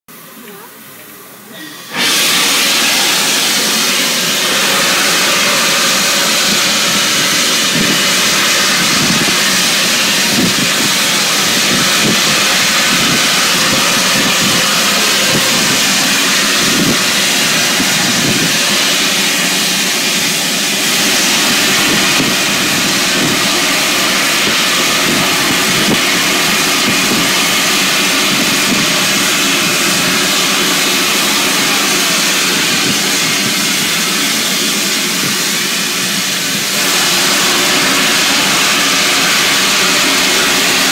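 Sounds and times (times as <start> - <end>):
steam hissing: 0.1 - 40.9.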